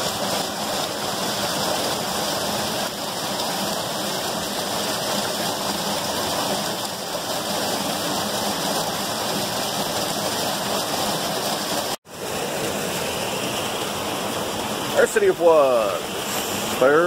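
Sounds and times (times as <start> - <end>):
waterfall splashing into rock pool: 0.0 - 17.0.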